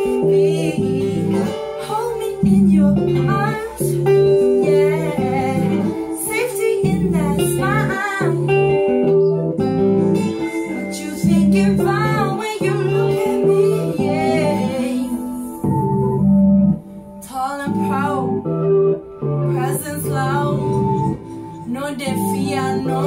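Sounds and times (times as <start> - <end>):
person singing: 0.0 - 16.2, 17.2 - 18.7, 19.4 - 23.0
electric and acoustic guitars: 0.0 - 23.0.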